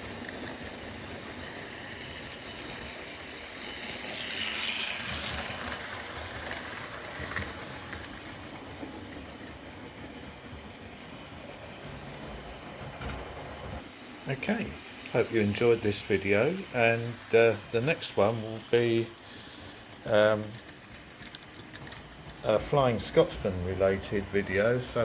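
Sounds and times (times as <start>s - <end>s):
model train motors whirring: 0.0s - 25.0s.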